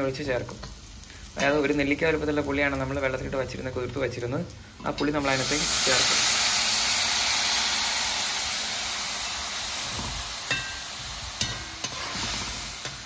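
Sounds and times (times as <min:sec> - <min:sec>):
liquid hissing in hot pan: 0:00.0 - 0:13.0.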